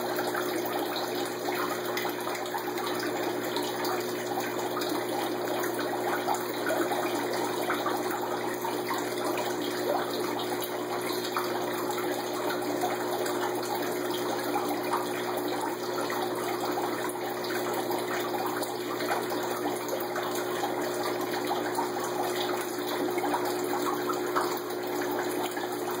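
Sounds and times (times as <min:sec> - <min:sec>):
aquarium filter bubbling: 0:00.0 - 0:26.0.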